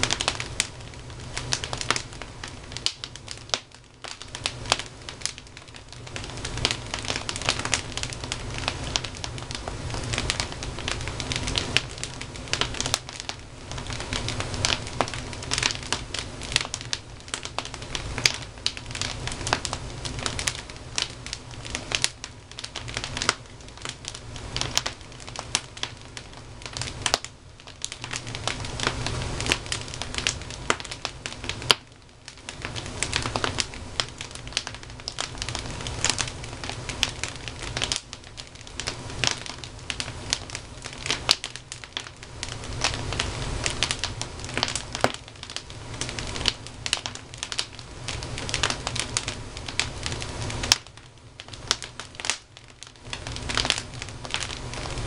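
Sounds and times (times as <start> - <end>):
logs crackling and popping: 0.0 - 55.0
rush of flame: 0.0 - 55.0.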